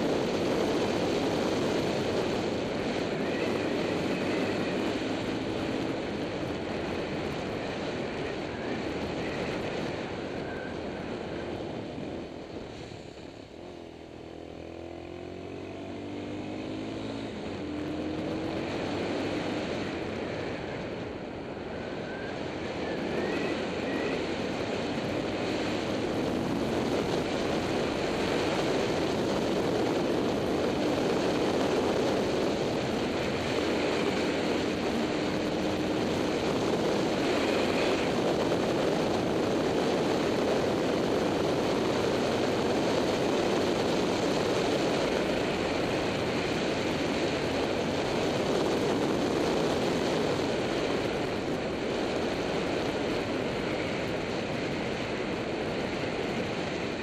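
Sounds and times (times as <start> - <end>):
wind on microphone: 0.0 - 14.3, 15.6 - 57.0.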